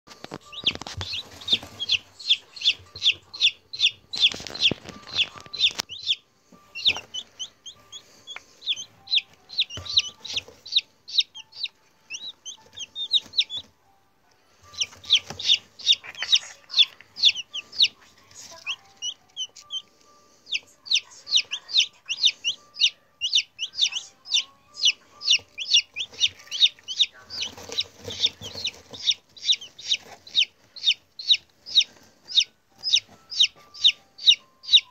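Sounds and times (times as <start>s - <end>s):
chicks peeping: 0.1s - 13.8s, 14.4s - 34.9s.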